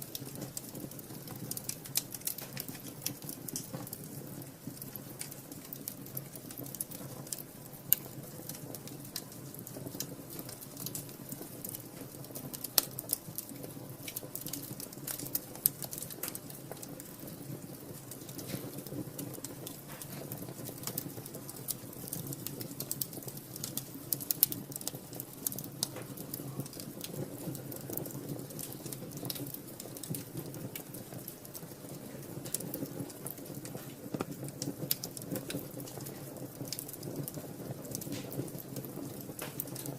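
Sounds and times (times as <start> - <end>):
flame rushing: 0.0 - 39.9
wood fire crackling: 0.0 - 39.9.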